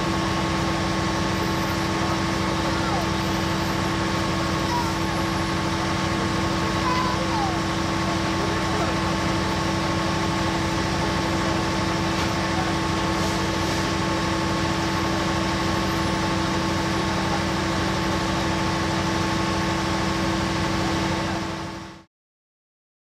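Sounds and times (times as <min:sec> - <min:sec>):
diesel train engine idling: 0:00.0 - 0:22.1.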